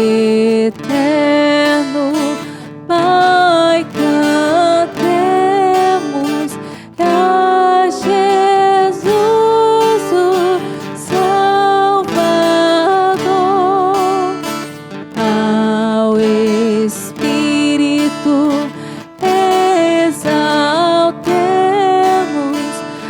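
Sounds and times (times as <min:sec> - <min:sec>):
acoustic guitar: 0:00.0 - 0:23.0
person singing a hymn: 0:00.0 - 0:23.0.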